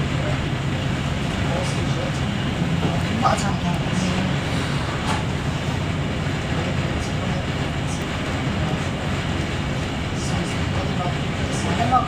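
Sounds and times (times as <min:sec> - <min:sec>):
passenger train running: 0:00.0 - 0:12.0.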